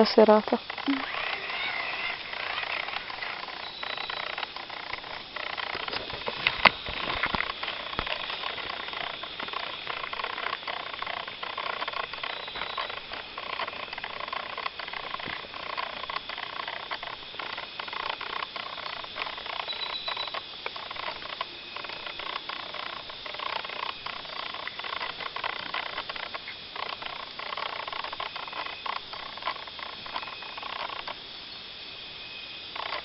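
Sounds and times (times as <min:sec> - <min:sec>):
insects and frogs buzzing and trilling: 0:00.0 - 0:33.0
small clicks: 0:00.4 - 0:31.2, 0:32.8 - 0:33.0.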